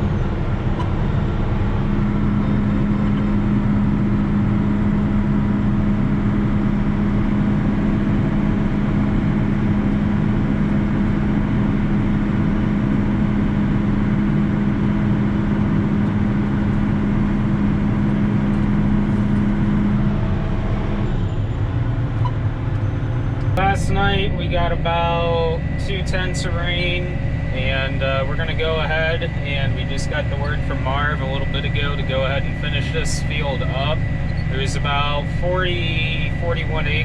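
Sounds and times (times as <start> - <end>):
farm machinery engine drone: 0.0 - 37.0.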